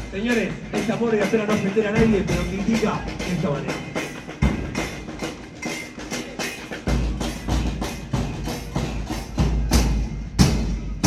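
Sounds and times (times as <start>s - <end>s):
drum section playing fast beat: 0.0s - 11.0s.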